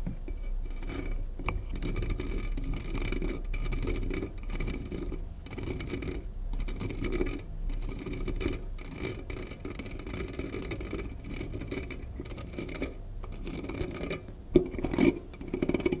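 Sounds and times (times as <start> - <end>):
scratching and rubbing: 0.0 - 16.0.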